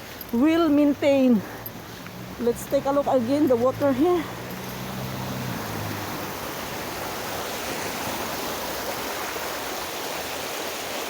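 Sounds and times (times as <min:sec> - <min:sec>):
stream splashing over stones: 0:00.0 - 0:11.0.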